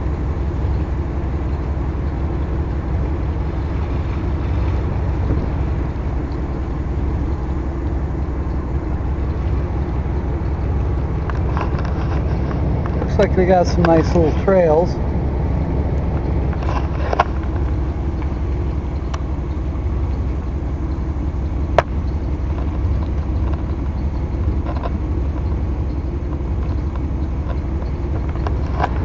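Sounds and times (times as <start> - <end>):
vehicle engine and road noise: 0.0 - 29.0.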